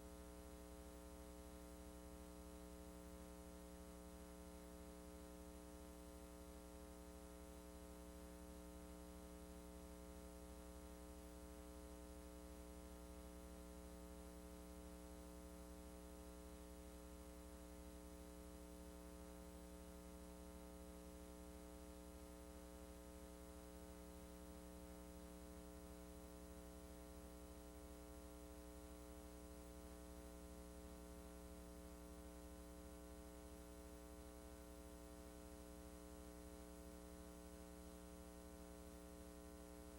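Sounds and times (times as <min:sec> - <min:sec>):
faint mains hum: 0:00.0 - 0:39.9.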